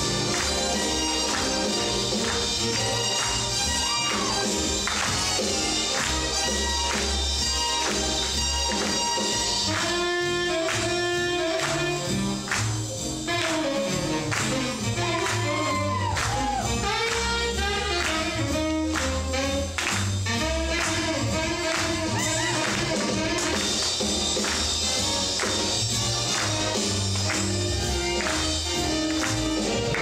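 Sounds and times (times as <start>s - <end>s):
swing band playing: 0.0s - 30.0s.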